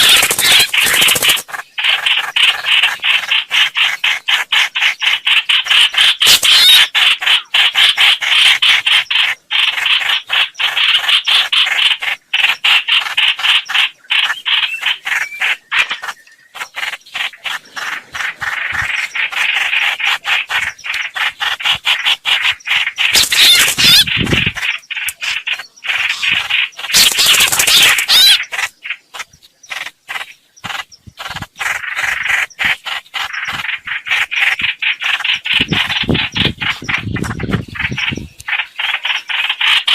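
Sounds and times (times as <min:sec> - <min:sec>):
bird harsh chattering calls: 0:00.0 - 0:39.9.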